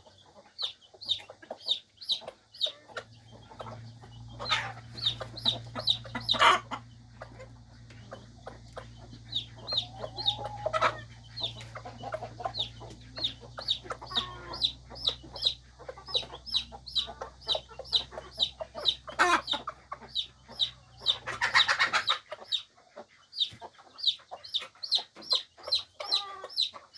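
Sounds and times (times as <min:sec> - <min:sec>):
chicks peeping: 0:00.0 - 0:26.9
hen clucking: 0:00.0 - 0:26.9.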